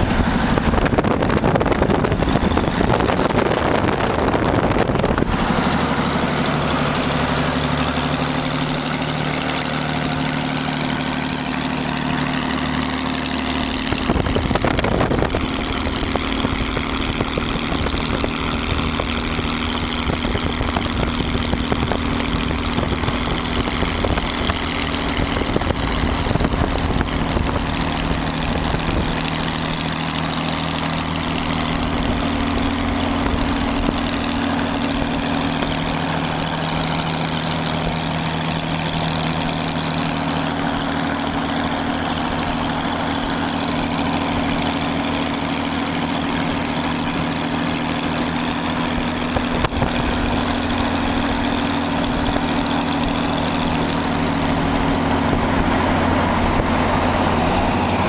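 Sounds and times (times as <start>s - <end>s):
engine running at low revs: 0.0s - 58.0s.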